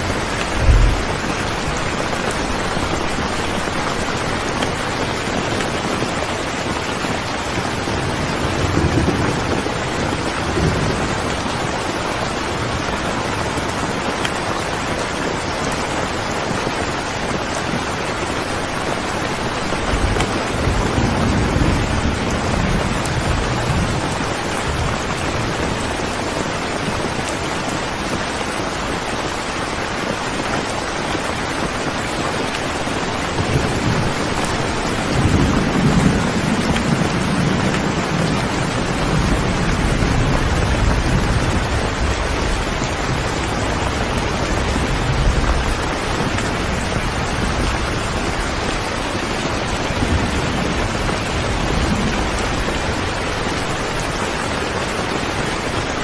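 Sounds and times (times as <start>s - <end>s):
thunder rumbling: 0.0s - 13.8s, 18.7s - 27.1s, 32.7s - 55.9s
rain falling: 0.0s - 56.0s.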